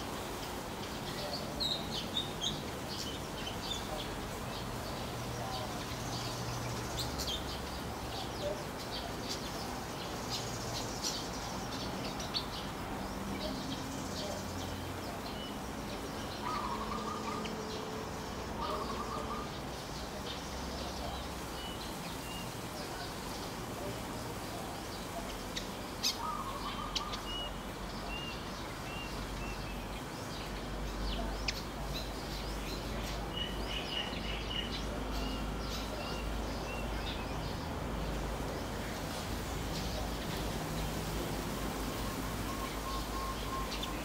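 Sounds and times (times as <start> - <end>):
steady background hiss: 0.0 - 44.0
wild birds chirping: 0.0 - 44.0.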